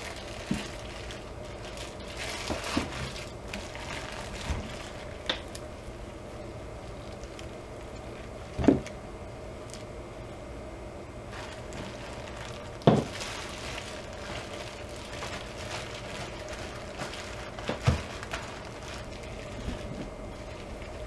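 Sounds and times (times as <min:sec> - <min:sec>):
plastic bag crinkling: 0:00.0 - 0:06.0, 0:06.8 - 0:08.9, 0:11.3 - 0:21.0.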